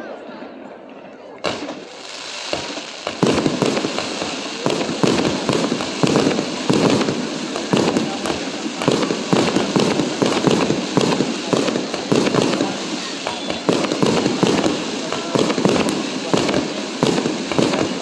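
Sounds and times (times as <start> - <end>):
crackling hiss: 1.4 - 18.0
fireworks shells bursting: 1.4 - 18.0.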